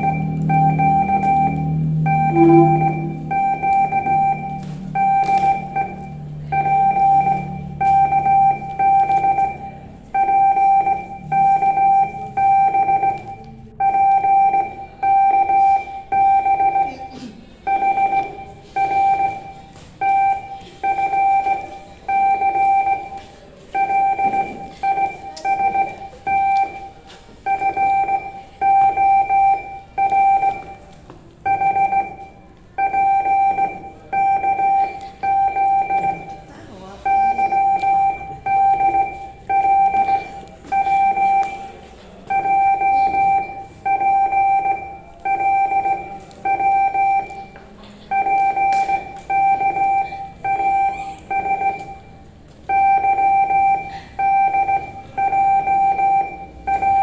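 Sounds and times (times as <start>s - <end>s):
morse code beeps: 0.0s - 57.0s.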